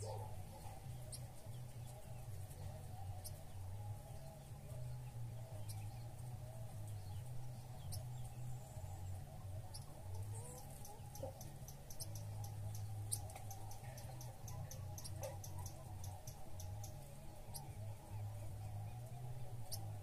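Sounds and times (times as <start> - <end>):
songbirds chip calls: 0.0 - 20.0
steady low hum: 0.0 - 20.0.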